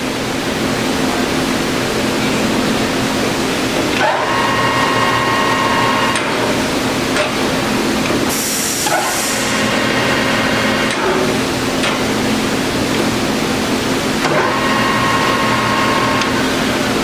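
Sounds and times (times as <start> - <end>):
lathe running with gear whine: 0.1 - 17.0.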